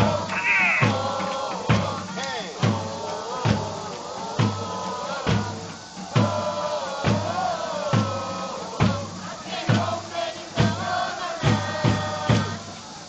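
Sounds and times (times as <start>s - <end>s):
big drum beating: 0.0s - 10.8s
crowd singing a chant: 0.0s - 13.0s.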